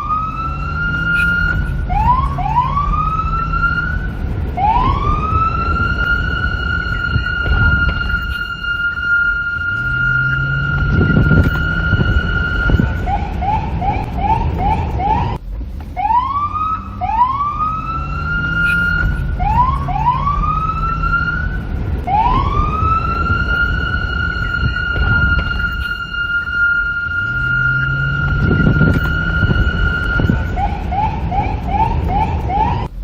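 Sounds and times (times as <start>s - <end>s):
police car siren: 0.0s - 15.4s, 16.0s - 33.0s
low rumble: 0.0s - 33.0s.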